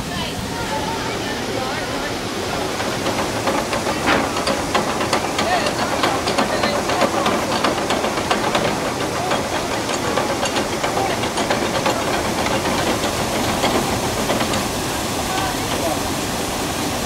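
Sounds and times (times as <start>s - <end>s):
water rushing through lock paddles: 0.0s - 17.0s.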